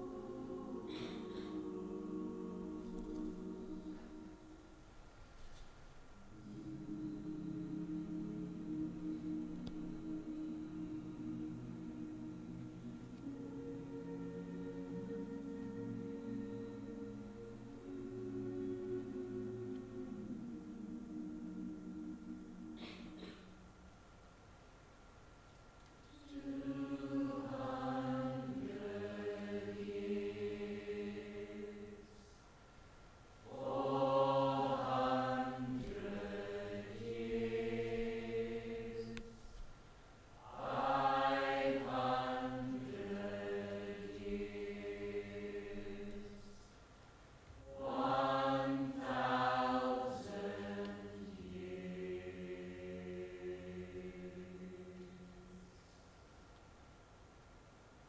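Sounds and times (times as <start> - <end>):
choir singing held chords: 0.0 - 5.2, 6.1 - 24.1, 26.0 - 47.0, 47.6 - 56.3.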